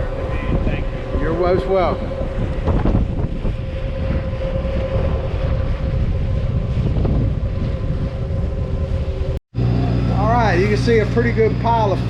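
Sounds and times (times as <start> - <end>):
boat engine drone: 0.0 - 12.0
machinery hum: 0.0 - 12.0
wind buffeting microphone: 0.0 - 12.0.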